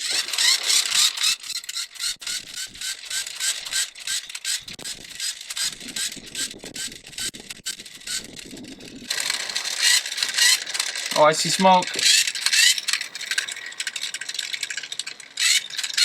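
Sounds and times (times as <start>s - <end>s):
toy motor clicking and chirping: 0.0s - 16.0s.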